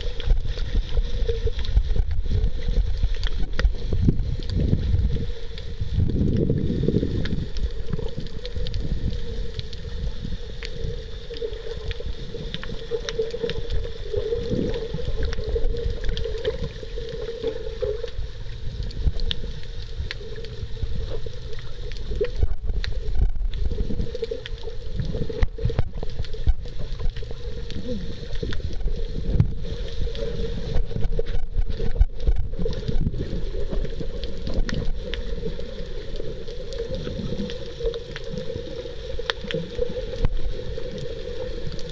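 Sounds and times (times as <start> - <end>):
underwater rumble of moving water: 0.0 - 41.9
small clicks: 7.2 - 41.9.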